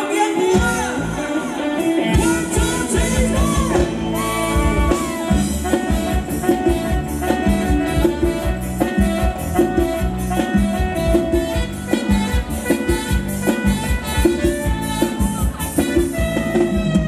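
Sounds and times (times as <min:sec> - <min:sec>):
live band playing dance music: 0:00.0 - 0:17.0
steady drum beat: 0:02.2 - 0:17.0.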